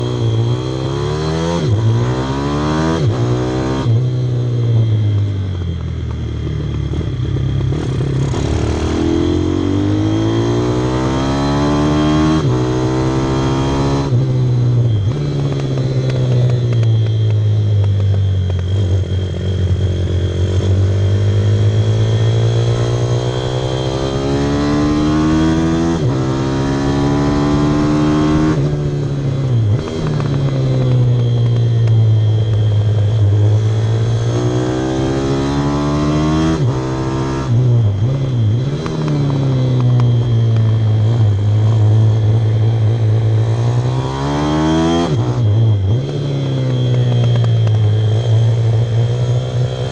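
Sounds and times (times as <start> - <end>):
motorbike engine revving: 0.0 - 5.8, 6.4 - 49.9.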